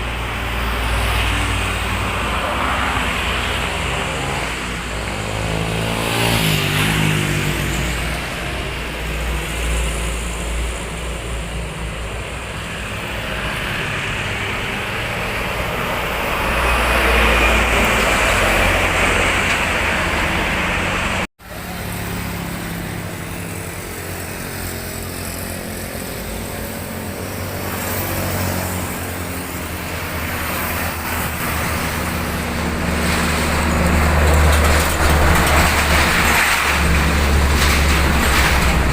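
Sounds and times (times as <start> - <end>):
motorcycles and cars passing: 0.0 - 38.9.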